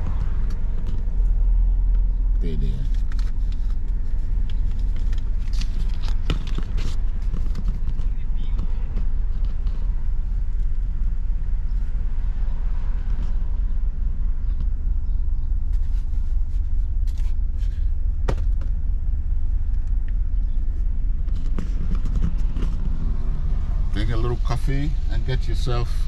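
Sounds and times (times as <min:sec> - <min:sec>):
car cabin rumble: 0:00.0 - 0:26.0.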